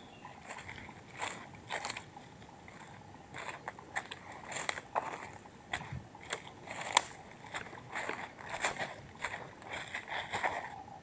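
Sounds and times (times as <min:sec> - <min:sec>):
footsteps on dry leaves: 0:00.0 - 0:11.0.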